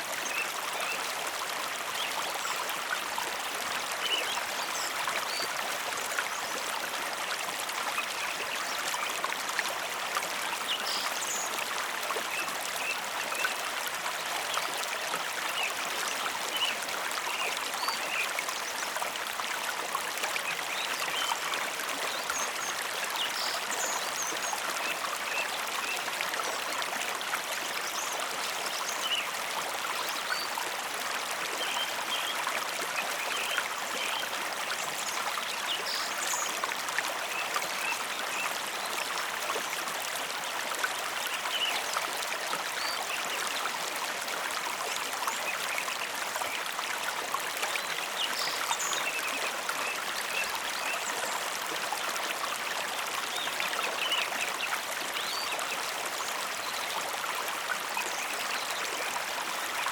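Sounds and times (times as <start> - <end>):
water splashes and trickles: 0.0 - 59.9.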